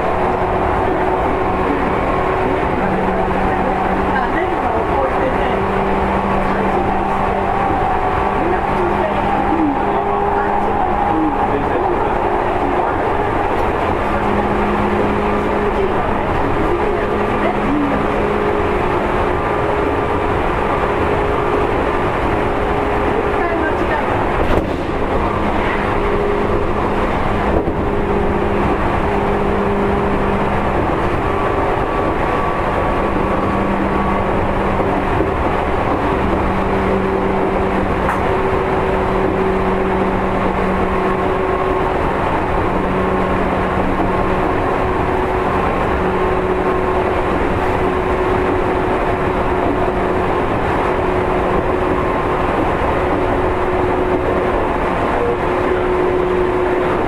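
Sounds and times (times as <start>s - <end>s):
wheels rumbling on track: 0.0s - 57.0s.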